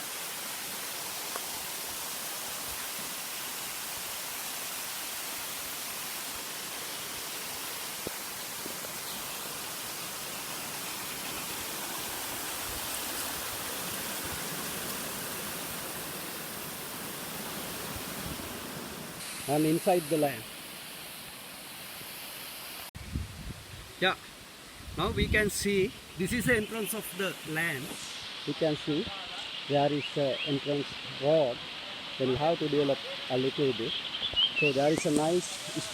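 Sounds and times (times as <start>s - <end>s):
water rushing in waterfall: 0.0s - 22.9s, 25.4s - 35.9s.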